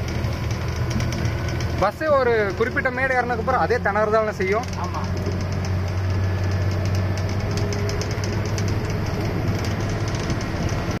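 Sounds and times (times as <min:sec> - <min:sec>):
cab rattling: 0:00.0 - 0:11.0
diesel truck engine droning: 0:00.0 - 0:11.0.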